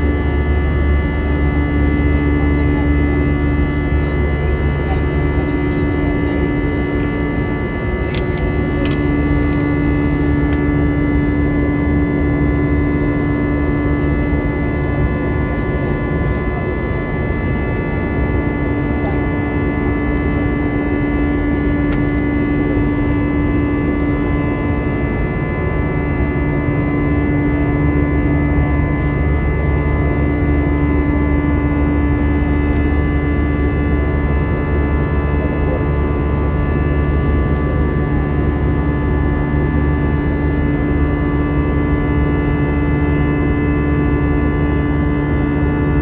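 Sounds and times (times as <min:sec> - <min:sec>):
aircraft cabin engine drone: 0:00.0 - 0:46.0
constant hum: 0:00.0 - 0:46.0
steady high whine: 0:00.0 - 0:46.0.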